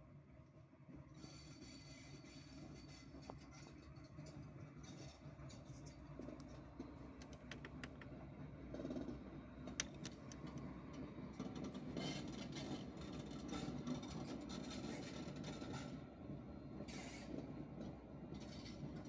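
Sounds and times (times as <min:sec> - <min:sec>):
distant train rumble: 0:00.0 - 0:19.0
train clicks and rattles: 0:00.9 - 0:19.0.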